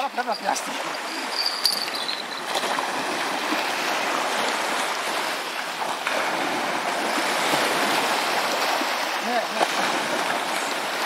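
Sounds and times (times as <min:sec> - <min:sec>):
waves washing onto stony shore: 0:00.0 - 0:11.0.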